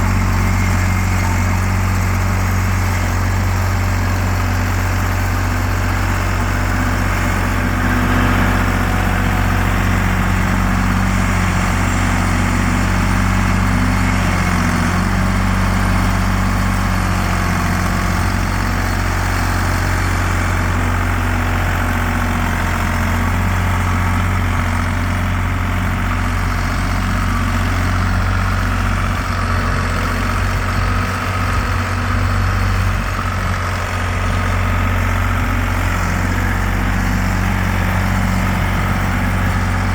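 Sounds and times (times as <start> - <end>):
tractor engine running at low revs: 0.0 - 39.9.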